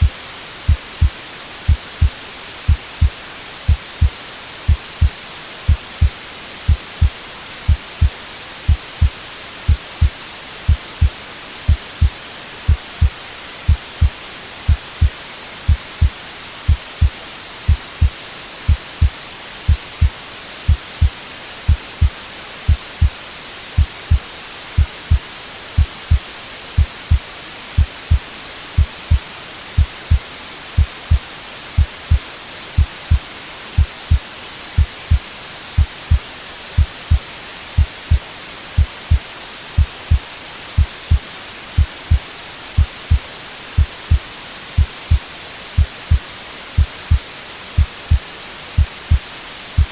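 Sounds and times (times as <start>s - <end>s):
white noise hiss: 0.0s - 49.9s.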